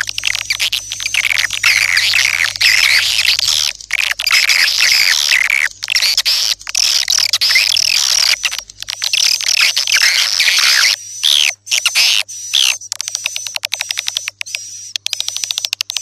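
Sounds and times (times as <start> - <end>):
swiftlets twittering: 0.0 - 16.0.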